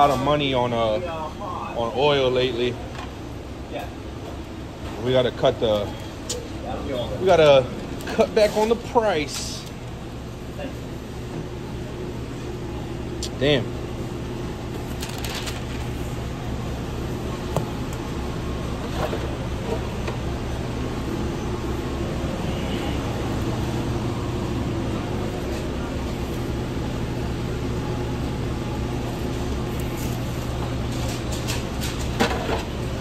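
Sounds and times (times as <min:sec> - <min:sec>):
kitchen equipment and ventilation hum: 0:00.0 - 0:33.0.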